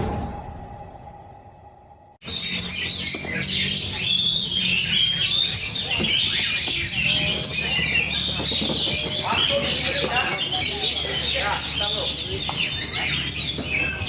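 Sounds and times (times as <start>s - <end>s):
caged songbirds singing: 2.2s - 14.0s.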